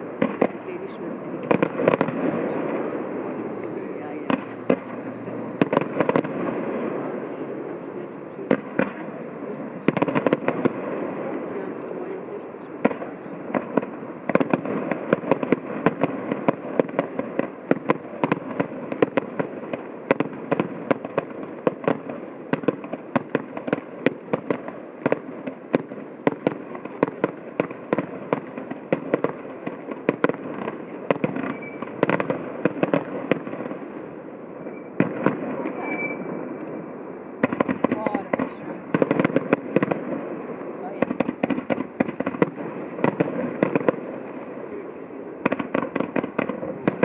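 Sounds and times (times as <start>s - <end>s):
continuous rumble: 0.0s - 47.0s
distant fireworks bangs: 0.0s - 47.0s.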